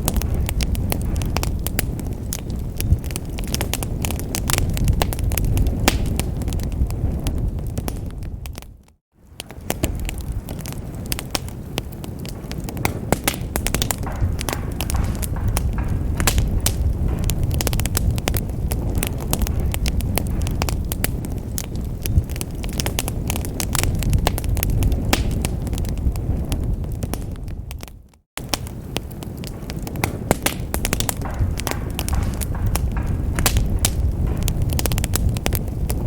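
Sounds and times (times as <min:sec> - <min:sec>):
low fire rumble: 0:00.0 - 0:36.0
wood fire crackling and popping: 0:00.0 - 0:36.0.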